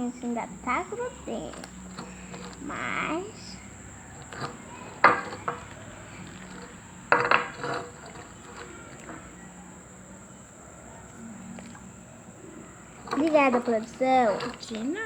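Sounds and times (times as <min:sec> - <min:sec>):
bowl and utensils clinking: 0:00.8 - 0:15.0.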